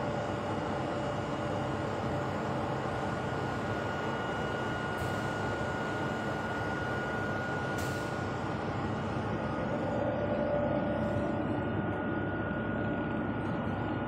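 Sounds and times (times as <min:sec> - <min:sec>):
conveyor belt running: 0:00.0 - 0:14.0.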